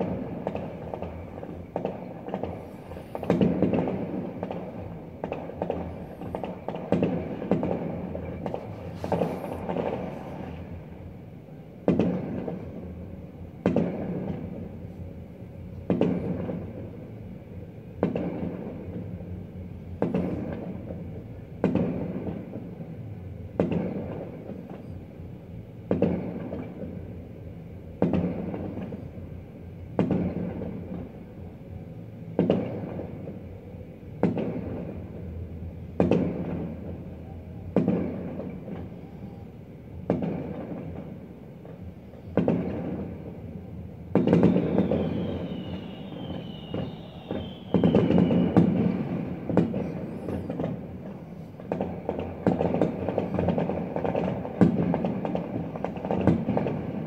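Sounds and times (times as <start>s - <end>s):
fireworks bangs with rumbling echo: 0.0s - 57.0s.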